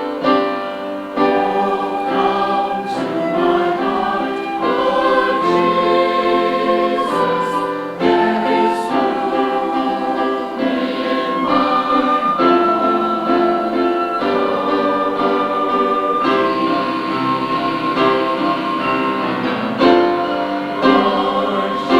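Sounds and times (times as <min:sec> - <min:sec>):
church choir singing in harmony: 0:00.0 - 0:21.9.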